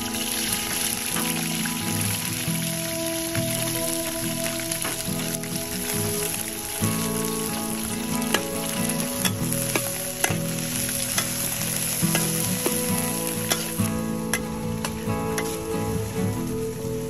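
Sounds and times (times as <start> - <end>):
vegetables sizzling in a wok: 0.0 - 15.6.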